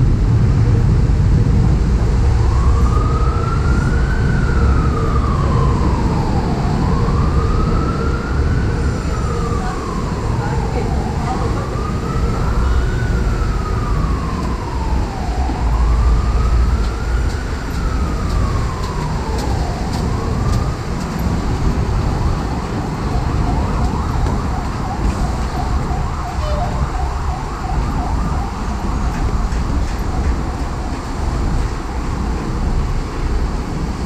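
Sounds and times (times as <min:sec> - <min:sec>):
city traffic rumble: 0:00.0 - 0:34.0
emergency siren wailing and yelping: 0:02.1 - 0:32.8.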